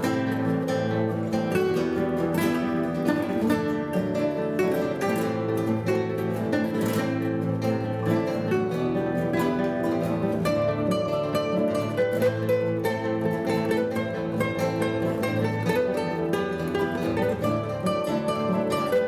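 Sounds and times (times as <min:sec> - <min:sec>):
acoustic guitars playing pop song: 0:00.0 - 0:19.0.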